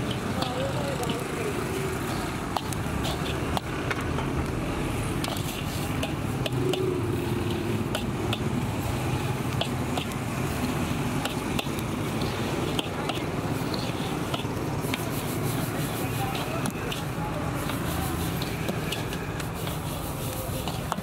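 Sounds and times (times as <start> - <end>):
sand scraping against metal pan: 1.9 - 3.7, 5.0 - 21.0.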